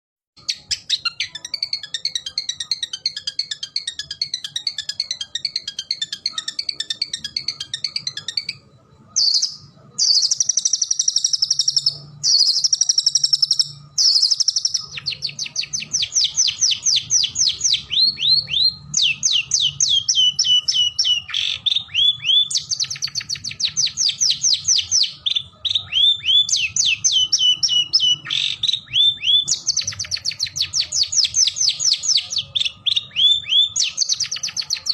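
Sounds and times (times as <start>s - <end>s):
shrike singing: 0.4s - 34.9s.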